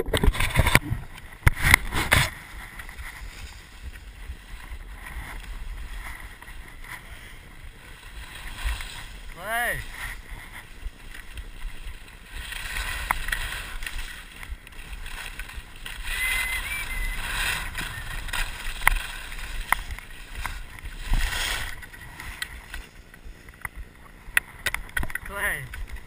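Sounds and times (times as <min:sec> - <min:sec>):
wind rumbling on microphone: 0:00.0 - 0:26.0
skis scraping over snow: 0:00.2 - 0:24.6.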